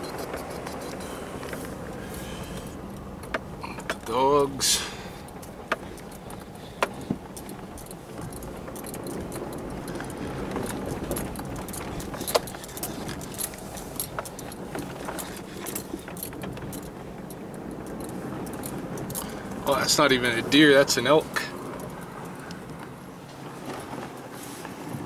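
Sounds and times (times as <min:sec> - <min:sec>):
small clicks and rattles: 0:00.0 - 0:04.4, 0:05.0 - 0:23.0
vehicle rolling over snow: 0:00.0 - 0:25.0.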